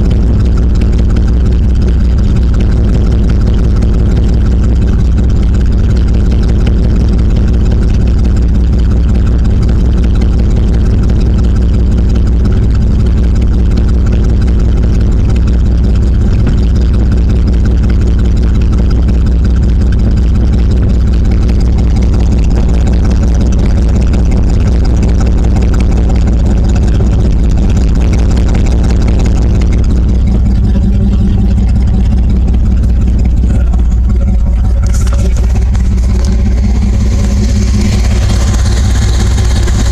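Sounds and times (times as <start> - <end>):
distorted microphone overload: 0.0 - 39.9
truck engine idling: 0.0 - 39.9.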